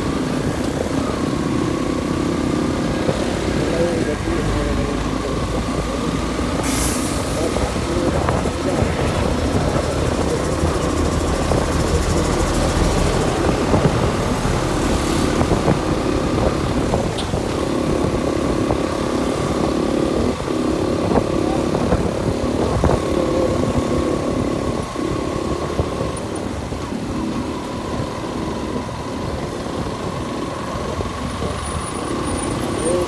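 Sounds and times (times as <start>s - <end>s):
motorcycle engine running: 0.0s - 33.0s
road noise: 0.0s - 33.0s.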